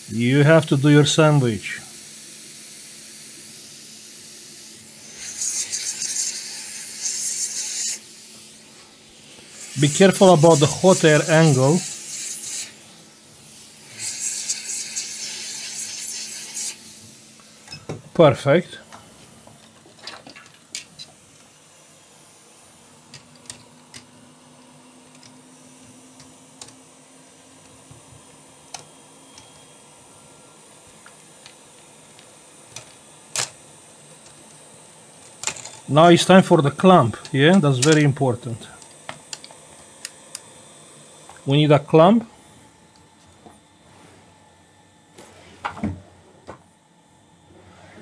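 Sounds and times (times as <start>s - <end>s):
faint steady hum: 0.0s - 48.0s
hot air blower hissing: 0.0s - 48.0s.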